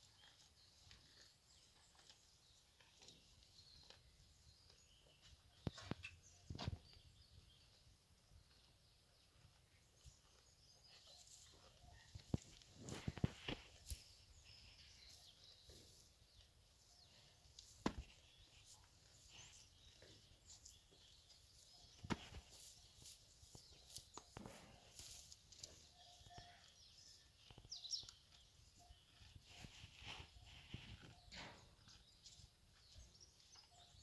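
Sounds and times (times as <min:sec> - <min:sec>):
faint outdoor ambience: 0:00.0 - 0:34.0.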